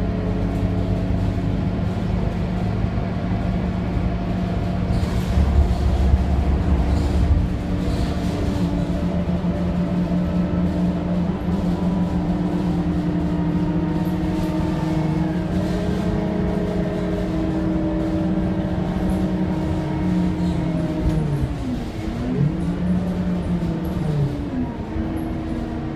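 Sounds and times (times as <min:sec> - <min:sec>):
bus diesel engine droning: 0:00.0 - 0:25.9.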